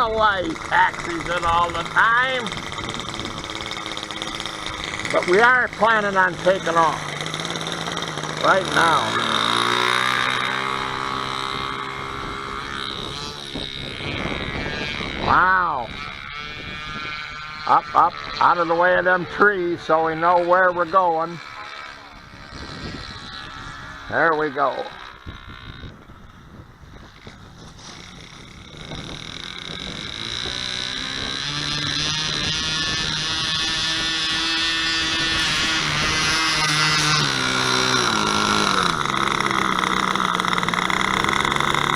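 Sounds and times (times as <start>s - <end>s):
model airplane engine at full throttle: 0.0s - 41.9s.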